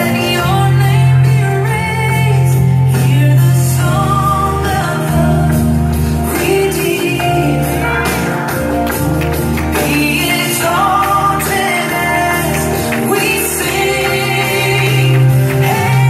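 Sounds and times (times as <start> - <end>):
person singing worship song: 0.0 - 8.0, 9.6 - 16.0
steady bass: 0.0 - 16.0.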